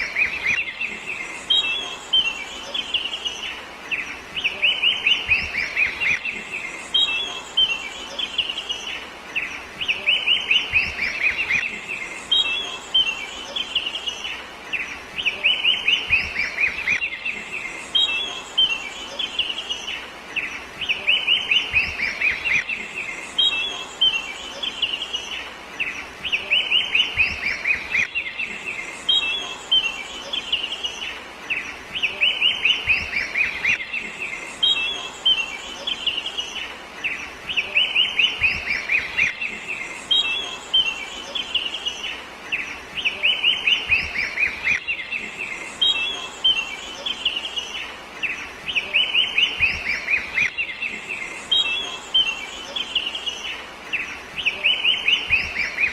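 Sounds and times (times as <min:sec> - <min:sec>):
bird chirping song: 0:00.0 - 0:55.9.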